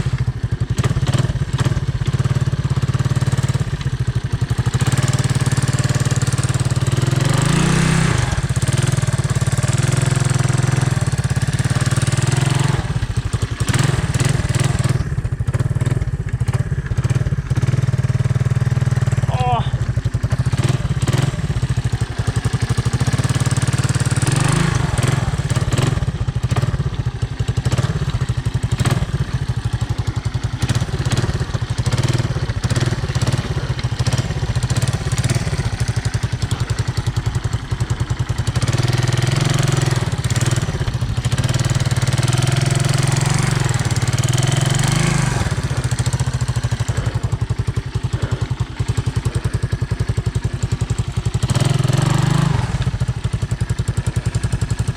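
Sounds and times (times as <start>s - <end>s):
four-stroke engine under load: 0.0s - 54.9s.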